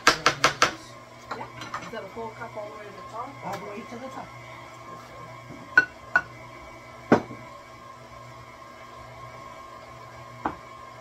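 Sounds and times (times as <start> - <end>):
steady electric hum: 0.0 - 11.0.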